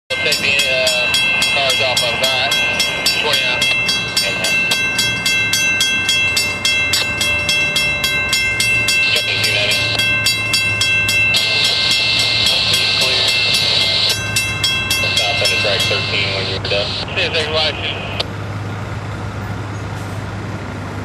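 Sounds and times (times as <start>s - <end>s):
railroad crossing bells ringing: 0.1s - 18.2s
diesel locomotive running: 0.1s - 21.0s.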